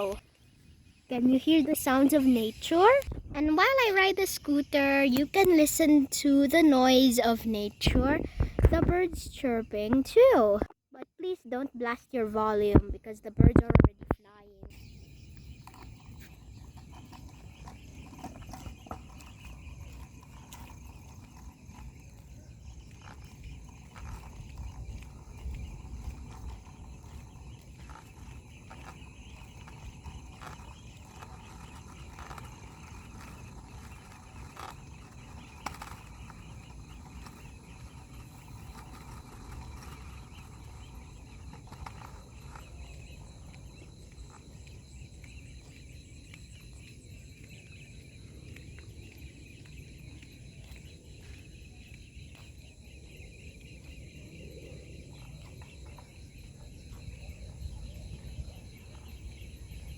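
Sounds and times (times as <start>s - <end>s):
scooter rolling rumble: 0.0s - 10.7s, 11.6s - 59.9s
birds chirping: 0.0s - 59.9s.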